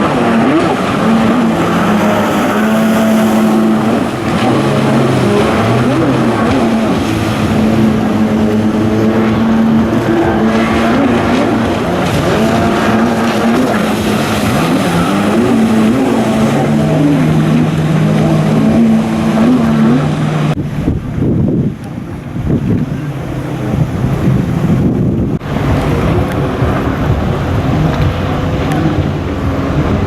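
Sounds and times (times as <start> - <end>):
jet ski engines racing: 0.0 - 30.0
wind on microphone: 0.0 - 30.0.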